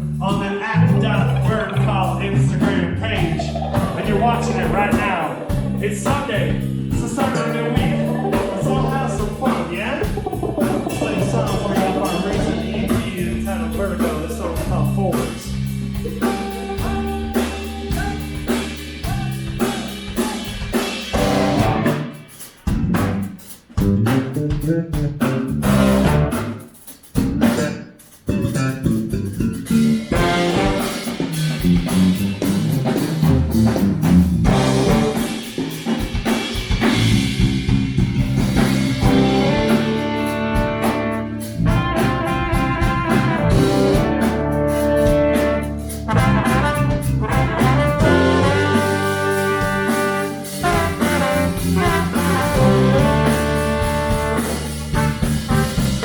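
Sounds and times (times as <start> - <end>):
live band with brass: 1.6 - 27.6, 30.0 - 56.0.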